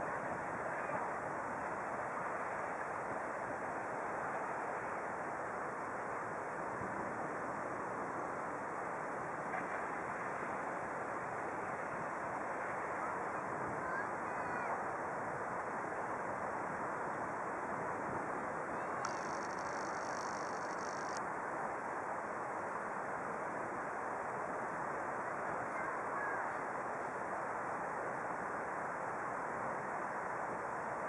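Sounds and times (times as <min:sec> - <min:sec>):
rushing river water: 0:00.0 - 0:31.0
wind: 0:00.0 - 0:31.0.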